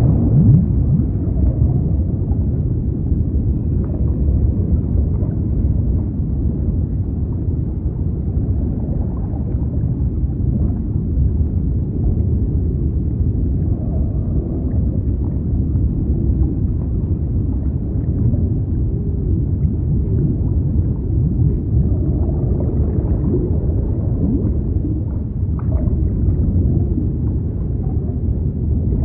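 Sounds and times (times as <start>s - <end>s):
muffled underwater rumble: 0.0s - 29.0s.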